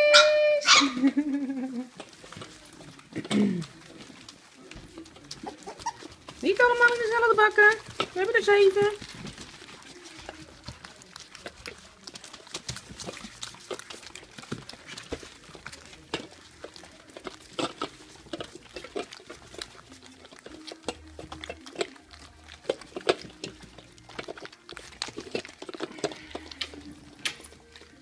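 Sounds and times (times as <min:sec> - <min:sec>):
puppies smacking and lapping: 0:00.0 - 0:28.0.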